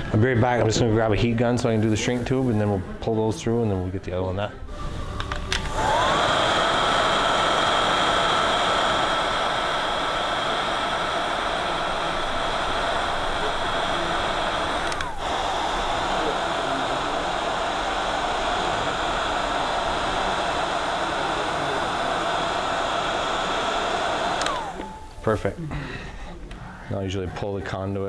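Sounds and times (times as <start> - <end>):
heat gun fan blowing: 0.0 - 28.0.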